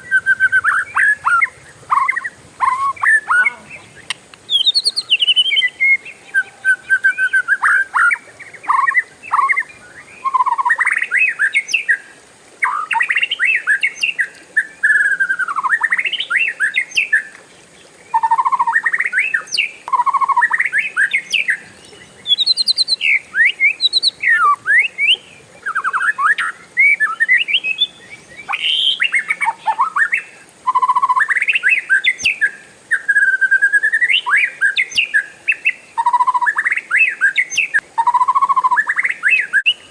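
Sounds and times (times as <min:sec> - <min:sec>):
bird singing whistled phrases: 0:00.0 - 0:12.0, 0:12.6 - 0:17.3, 0:18.1 - 0:39.9.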